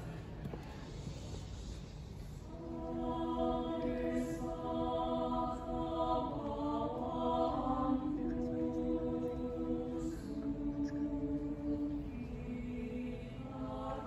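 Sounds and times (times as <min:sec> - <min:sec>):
mixed choir singing chords: 0:02.5 - 0:14.0.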